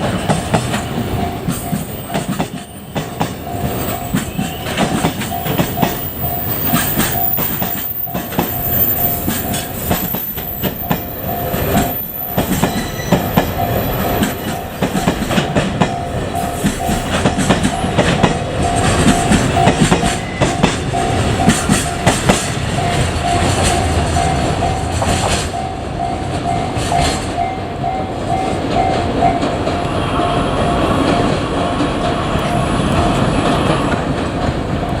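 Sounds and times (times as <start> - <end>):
level-crossing warning bell: 0.0 - 35.0
train wheels clattering: 0.0 - 35.0.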